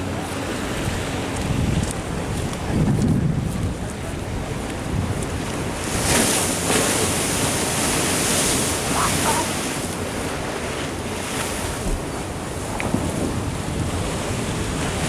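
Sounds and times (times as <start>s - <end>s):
ocean waves breaking on a wall: 0.0s - 15.0s
wind buffeting the microphone: 0.0s - 15.0s.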